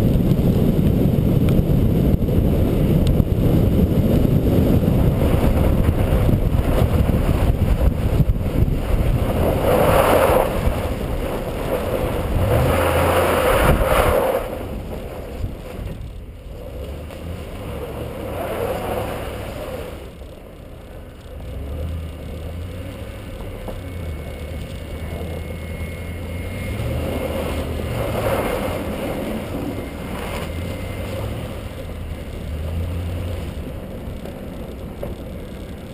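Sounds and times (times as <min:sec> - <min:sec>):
truck engine droning: 0:00.0 - 0:35.9
tyres sliding on snow: 0:00.0 - 0:35.9.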